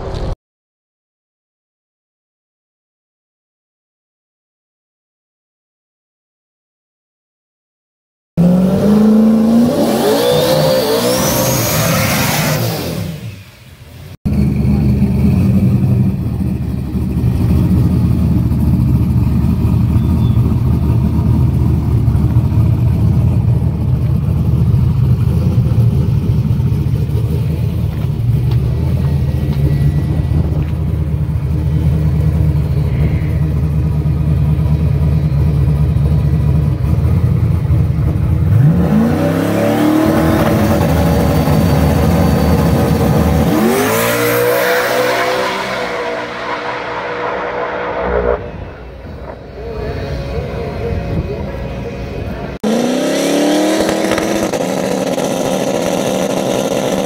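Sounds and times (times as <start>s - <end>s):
car engine revving and idling: 8.4s - 13.6s, 14.3s - 57.0s.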